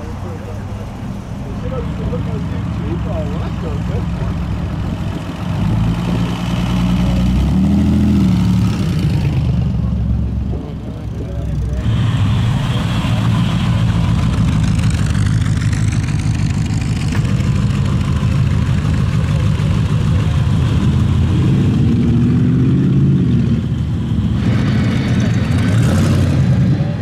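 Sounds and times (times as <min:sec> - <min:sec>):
car engine idling: 0:00.0 - 0:07.4, 0:08.0 - 0:25.8.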